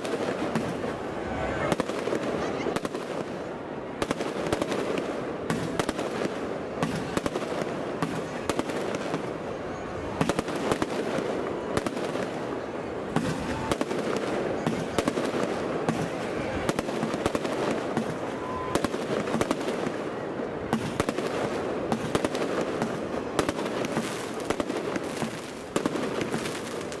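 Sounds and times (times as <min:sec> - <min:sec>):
fireworks dense crackling: 0:00.0 - 0:27.0
fireworks sharp bangs: 0:00.0 - 0:27.0.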